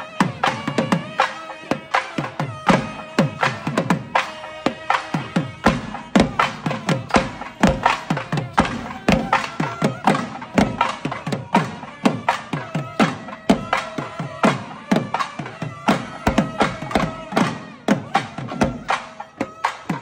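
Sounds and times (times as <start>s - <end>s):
barrel drums beaten fast: 0.0s - 20.0s.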